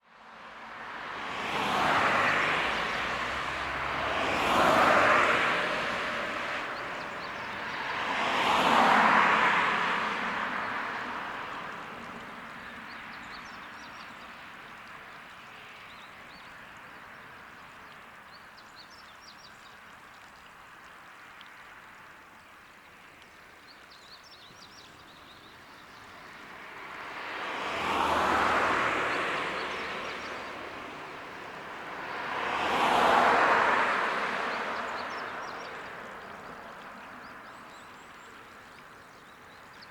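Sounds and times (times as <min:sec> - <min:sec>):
vehicles passing: 0:00.1 - 0:39.9.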